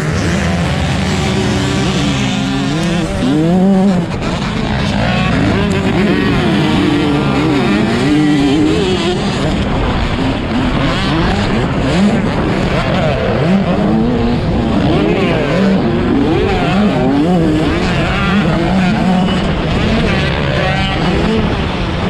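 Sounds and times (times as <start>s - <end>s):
motocross bikes racing: 0.0s - 22.0s.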